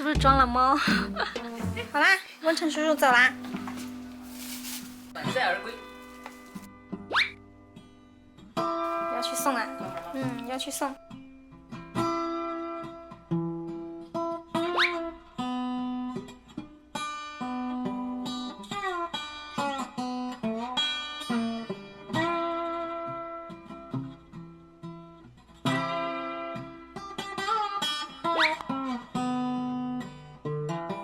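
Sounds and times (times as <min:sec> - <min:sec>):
plucked acoustic guitar tune: 0:00.0 - 0:04.3, 0:05.2 - 0:31.0.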